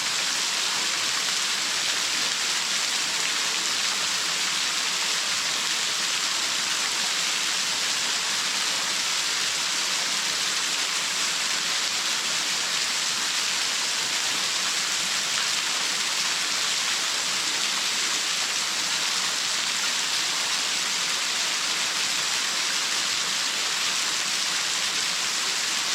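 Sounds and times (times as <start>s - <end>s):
waterfall splashing: 0.1s - 25.9s.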